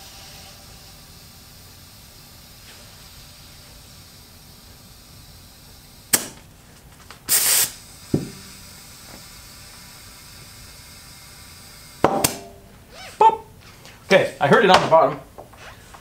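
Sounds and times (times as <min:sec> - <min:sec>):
air hiss: 0:00.0 - 0:06.5, 0:07.2 - 0:14.5.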